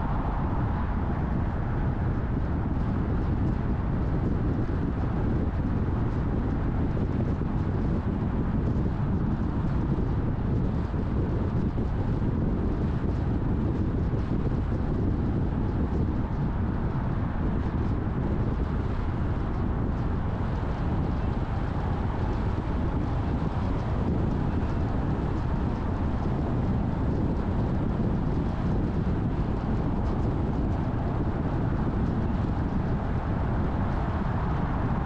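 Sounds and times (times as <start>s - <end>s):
car road noise: 0.0s - 12.0s, 12.7s - 35.0s.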